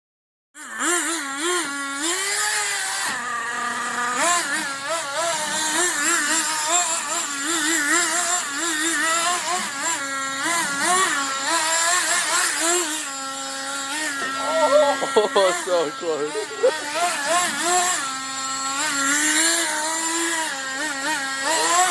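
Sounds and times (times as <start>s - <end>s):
small gas engine revving: 0.6s - 21.9s.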